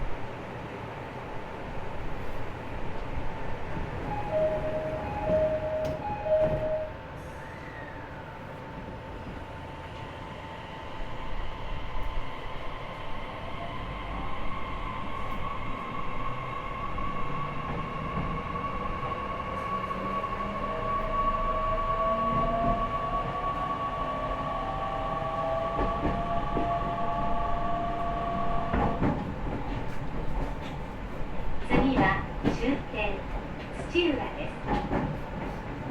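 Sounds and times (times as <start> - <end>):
low rail rumble: 0.0 - 35.9.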